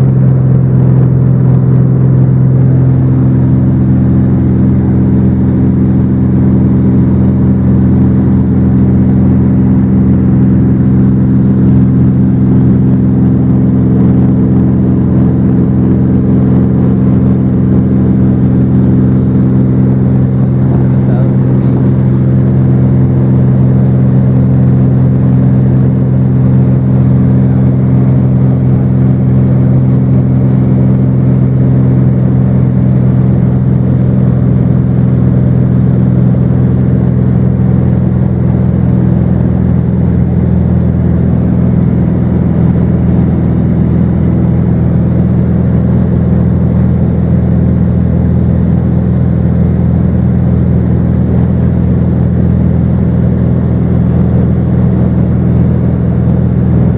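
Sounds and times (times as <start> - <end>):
airplane engine droning in cabin: 0.0 - 56.9.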